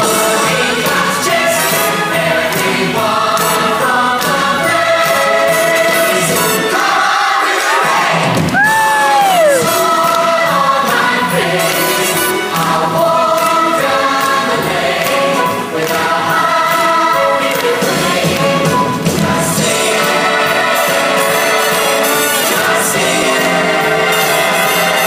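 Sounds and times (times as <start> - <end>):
chorus singing a show tune: 0.0 - 8.4, 9.1 - 25.0
musical accompaniment: 0.0 - 25.0.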